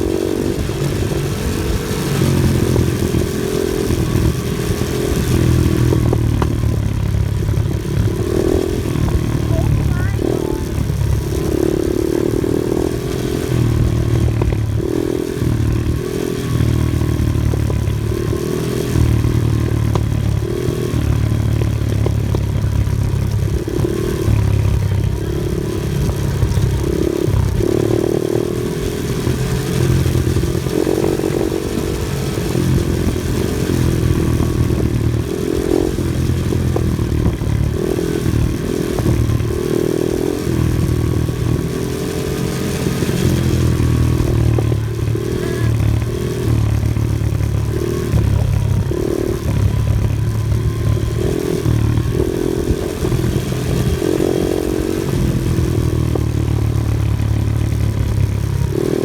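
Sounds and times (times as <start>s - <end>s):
off-road vehicle engine revving: 0.0s - 59.0s
vehicle rattling and scraping: 0.0s - 59.0s.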